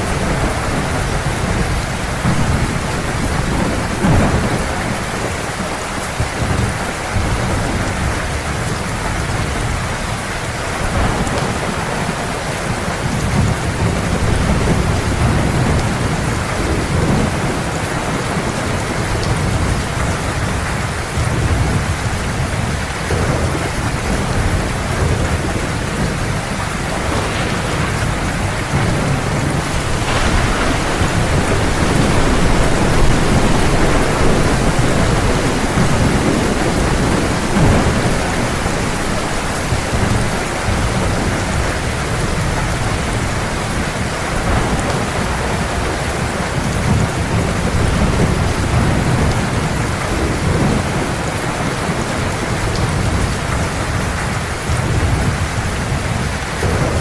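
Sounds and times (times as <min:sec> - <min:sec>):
thunder rumbling low: 0:00.0 - 0:10.2, 0:10.8 - 0:57.0
heavy rain pouring: 0:00.0 - 0:57.0.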